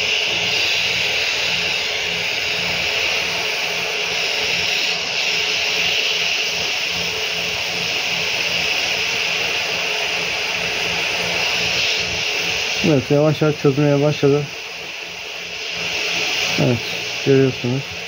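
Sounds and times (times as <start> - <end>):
hot air nozzle hissing: 0.0 - 18.0.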